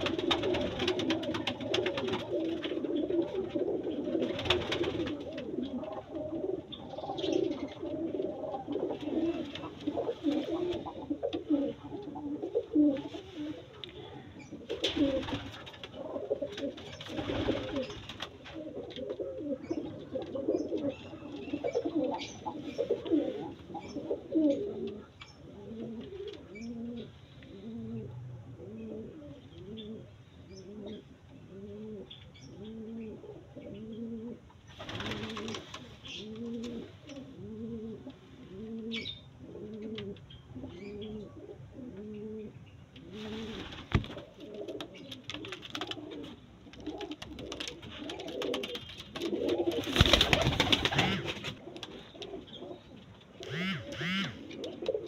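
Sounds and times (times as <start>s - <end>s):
pigeons cooing: 0.0s - 55.0s.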